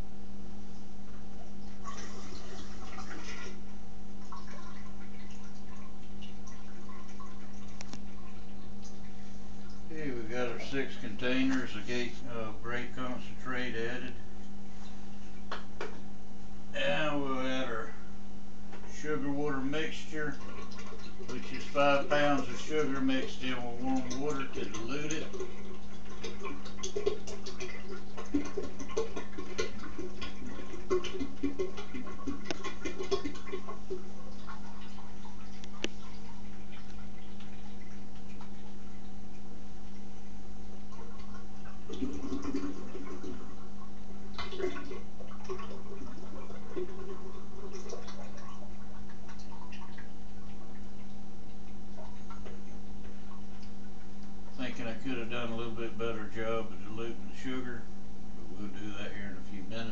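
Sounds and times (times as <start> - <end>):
steady low hum: 0.0 - 59.9
liquid gurgling and splashing: 1.2 - 16.0, 18.7 - 57.6
water pouring through funnel: 1.4 - 15.5, 18.8 - 57.6.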